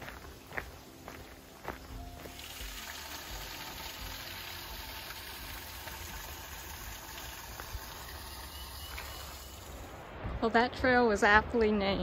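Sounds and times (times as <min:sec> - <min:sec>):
creek trickling over rocks: 0:00.0 - 0:10.0.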